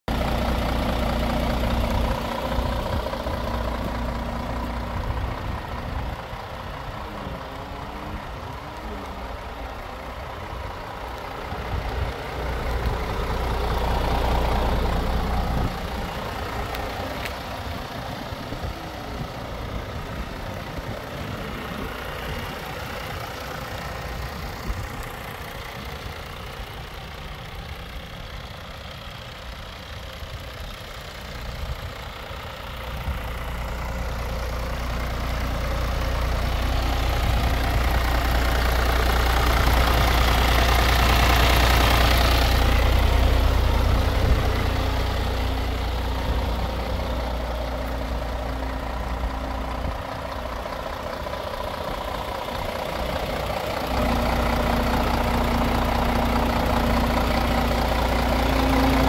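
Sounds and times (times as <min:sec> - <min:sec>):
diesel truck idling: 0:00.0 - 0:59.0.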